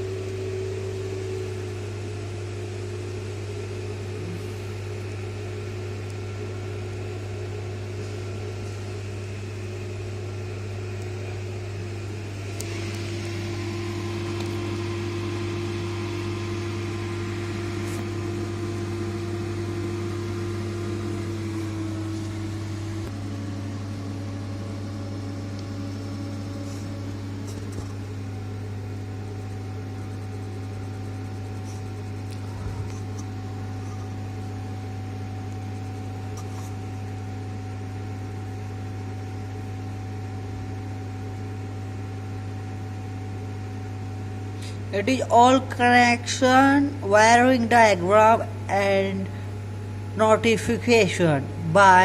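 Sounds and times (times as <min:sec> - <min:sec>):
high machinery whine: 0:00.0 - 0:52.0
low mains hum: 0:00.0 - 0:52.0.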